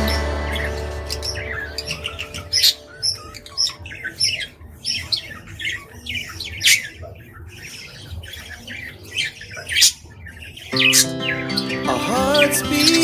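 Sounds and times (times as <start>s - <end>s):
budgies squawking and chirping: 0.0s - 13.0s.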